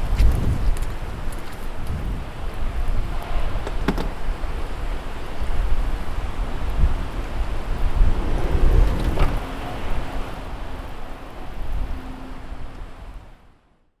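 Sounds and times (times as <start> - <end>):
wind buffeting microphone: 0.0 - 13.4
heavy rain: 0.0 - 13.6.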